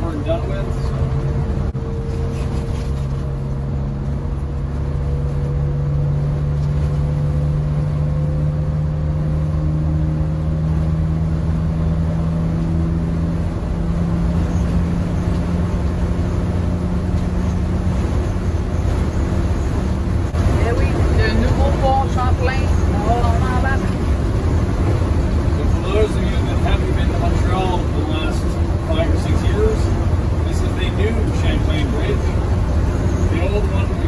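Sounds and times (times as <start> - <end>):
coach diesel engine hum: 0.0 - 34.0
road noise: 0.0 - 34.0.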